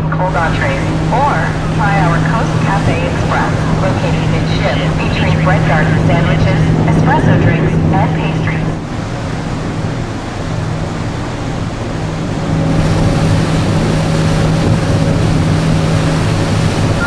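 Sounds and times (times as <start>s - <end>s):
ship engines droning: 0.0s - 17.0s
water rushing past hull: 0.0s - 17.0s
wind on microphone: 0.0s - 17.0s.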